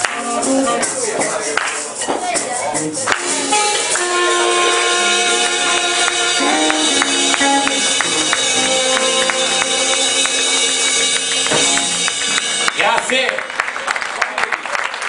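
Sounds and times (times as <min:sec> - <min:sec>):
live blues band playing: 0:00.0 - 0:13.7
shimmering cymbals: 0:00.4 - 0:13.1.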